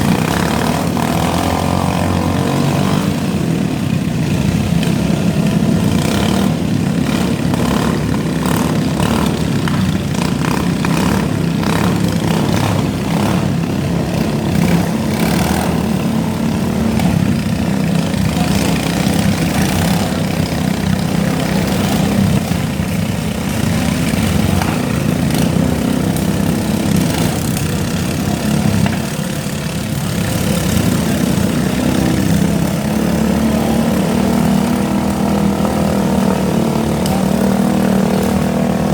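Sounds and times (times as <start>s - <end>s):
lawn mower engines running: 0.0s - 38.9s.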